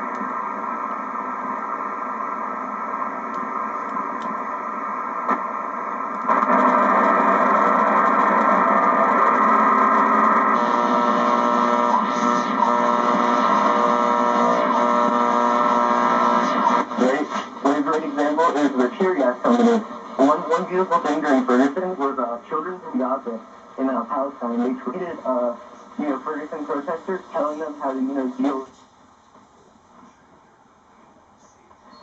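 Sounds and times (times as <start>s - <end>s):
radio receiver static: 0.0s - 30.2s.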